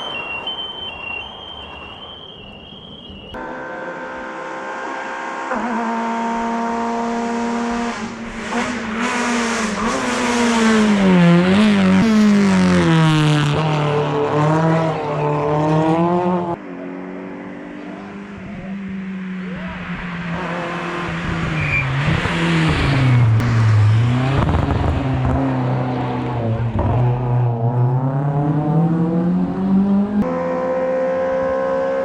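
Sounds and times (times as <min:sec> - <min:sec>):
race car engine accelerating: 0:03.3 - 0:32.0.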